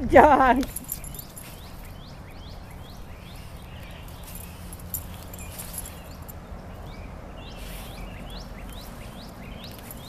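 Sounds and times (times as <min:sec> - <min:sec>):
low outdoor rumble: 0:00.0 - 0:10.0
small bird chirping: 0:00.7 - 0:10.0.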